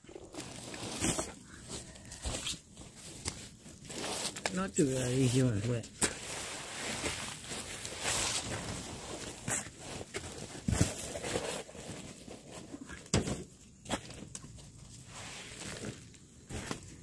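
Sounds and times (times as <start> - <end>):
cardboard rustling and crumpling: 0.0 - 17.0.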